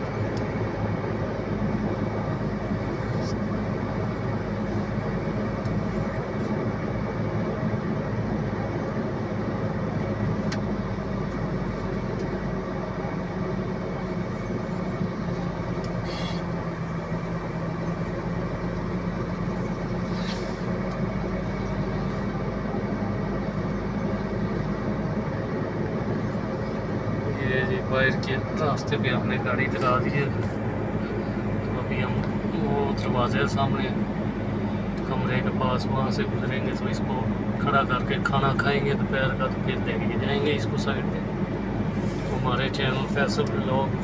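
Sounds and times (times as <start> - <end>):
diesel truck engine droning: 0.0 - 44.0.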